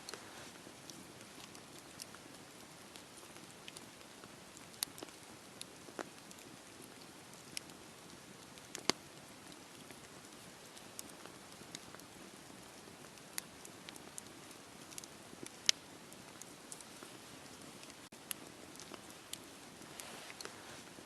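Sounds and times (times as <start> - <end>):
soft steady hiss: 0.0 - 21.0
wood fire crackling and popping: 0.0 - 21.0.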